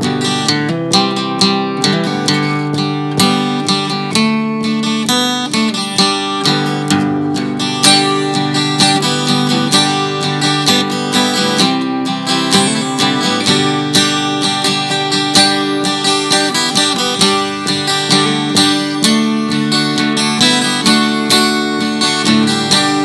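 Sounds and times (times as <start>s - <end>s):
acoustic guitar strummed and picked: 0.0s - 23.0s.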